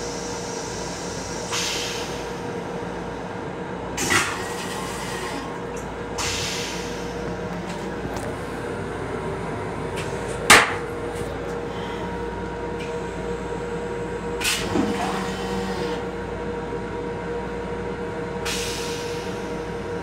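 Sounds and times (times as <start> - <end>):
railcar hum: 0.0 - 20.0.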